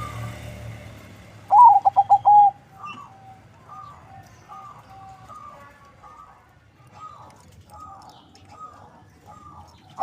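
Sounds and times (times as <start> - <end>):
dove cooing: 1.5 - 10.0.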